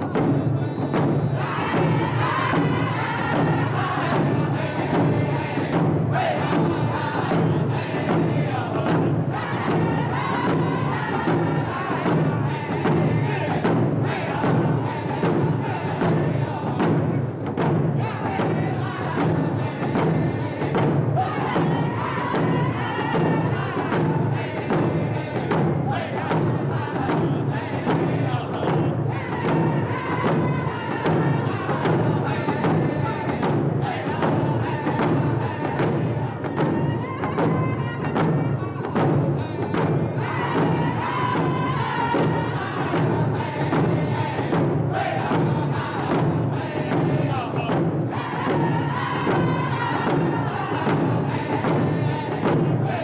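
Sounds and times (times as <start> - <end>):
frame drums beating: 0.0 - 53.0
men singing in unison: 0.0 - 53.0.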